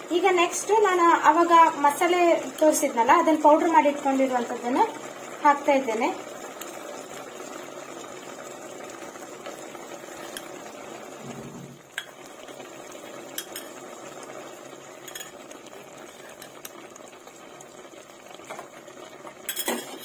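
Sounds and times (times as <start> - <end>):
pot bubbling: 0.0 - 20.0.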